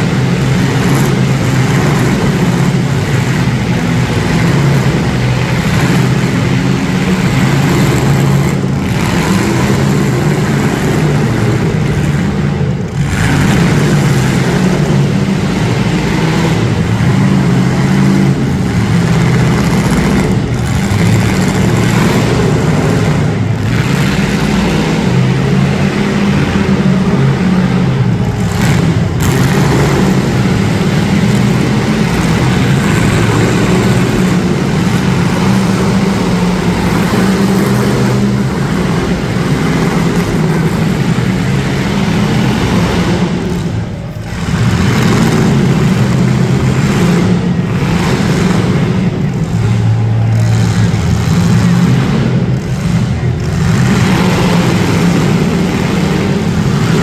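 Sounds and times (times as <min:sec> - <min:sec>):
car engines revving loudly: 0:00.0 - 0:57.0.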